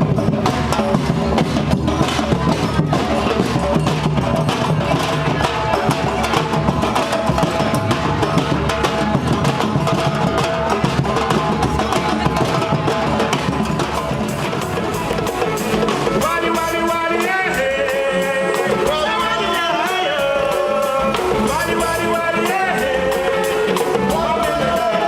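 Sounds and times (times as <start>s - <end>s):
drum kit beat: 0.0s - 25.0s.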